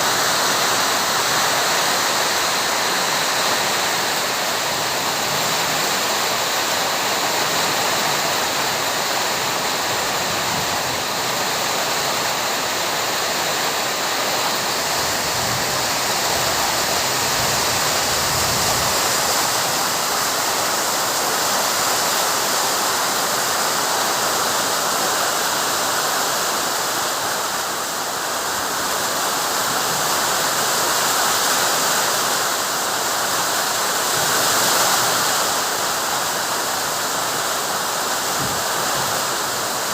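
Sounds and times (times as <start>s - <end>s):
heavy rain in strong wind: 0.0s - 39.9s.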